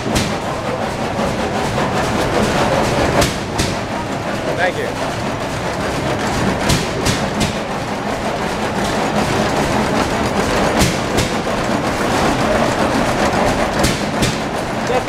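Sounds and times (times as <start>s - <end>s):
stationary engines clattering: 0.0s - 15.0s.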